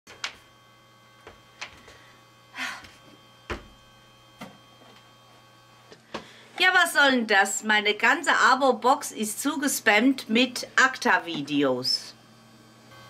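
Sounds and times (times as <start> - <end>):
faint electrical hum: 0.1 - 13.0.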